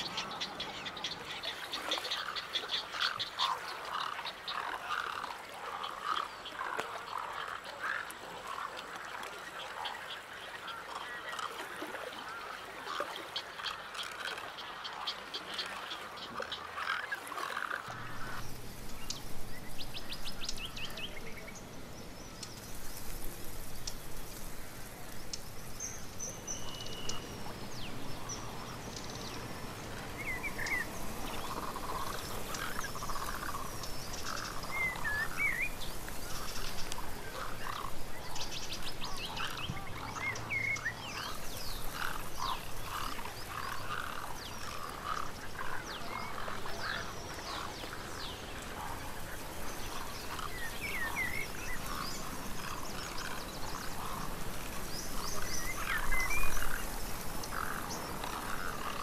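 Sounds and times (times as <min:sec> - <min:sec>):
birds croaking and chirping: 0:00.0 - 0:08.8, 0:09.6 - 0:59.0.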